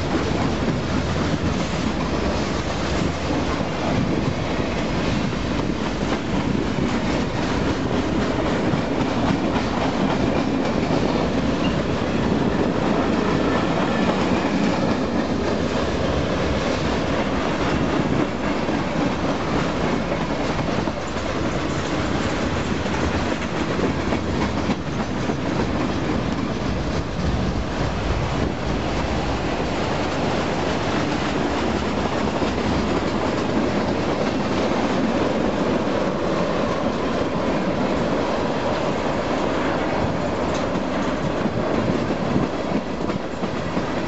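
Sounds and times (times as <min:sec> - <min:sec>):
train wheels rumbling on rails: 0:00.0 - 0:44.0
wheels clicking over rail joints: 0:00.0 - 0:44.0.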